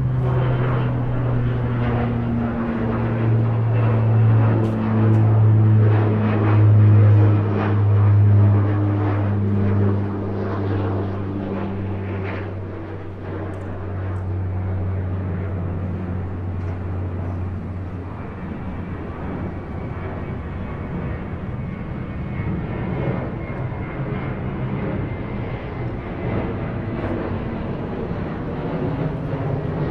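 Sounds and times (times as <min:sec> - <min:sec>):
airplane engine droning: 0:00.0 - 0:29.9.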